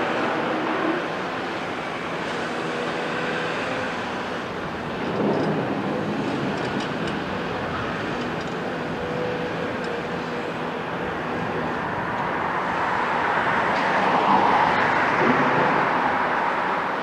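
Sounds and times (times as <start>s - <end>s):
excavator diesel engines running: 0.0s - 17.0s.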